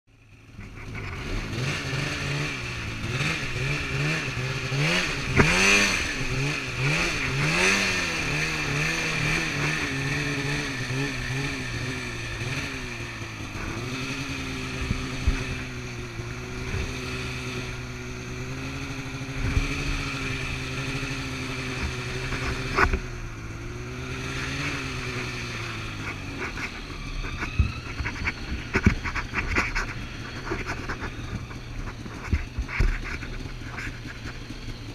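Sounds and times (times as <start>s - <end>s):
snowmobile engine revving: 0.3s - 34.9s.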